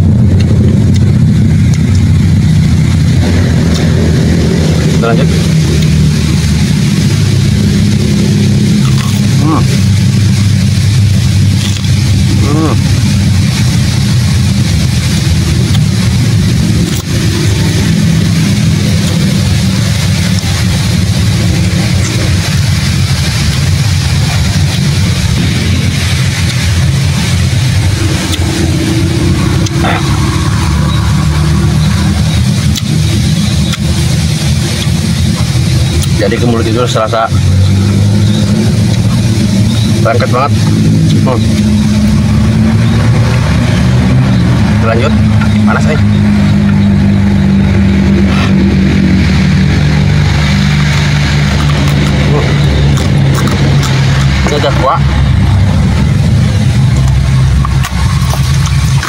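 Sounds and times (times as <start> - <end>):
loud low engine hum: 0.0 - 59.0.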